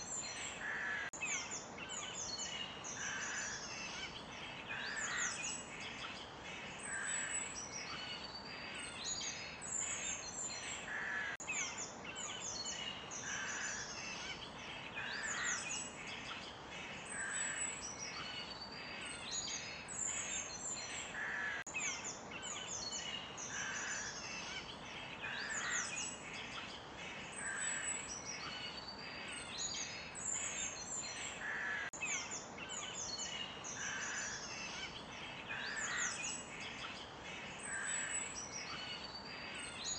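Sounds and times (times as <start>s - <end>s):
faint steady hiss: 0.0s - 39.9s
forest birds chirping and singing: 0.0s - 39.9s.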